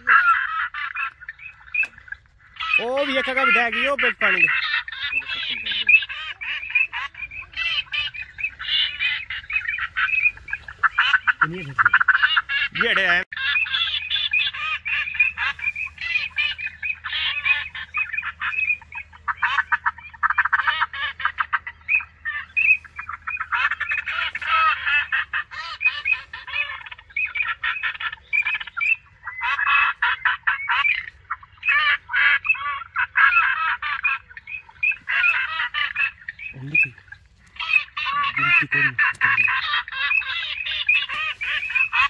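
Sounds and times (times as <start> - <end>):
flock of ducks calling: 0.0 - 42.0.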